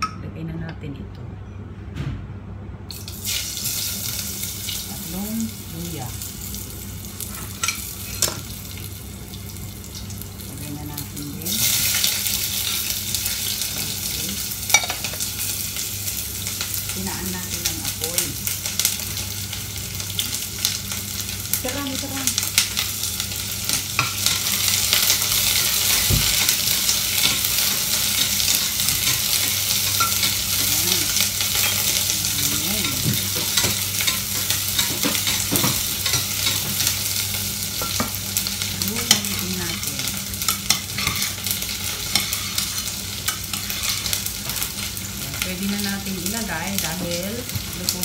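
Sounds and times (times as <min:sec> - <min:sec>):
low steady hum: 0:00.0 - 0:48.0
onion sizzling in hot oil: 0:02.9 - 0:48.0.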